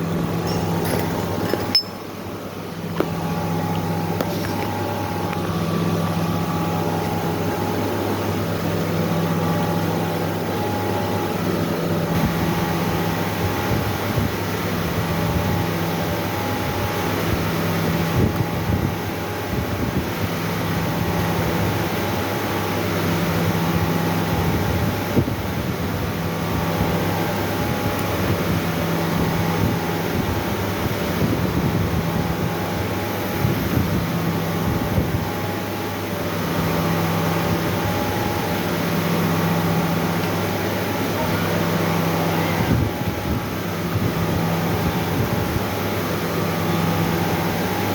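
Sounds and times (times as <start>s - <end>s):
machine humming and whirring: 0.0s - 47.9s.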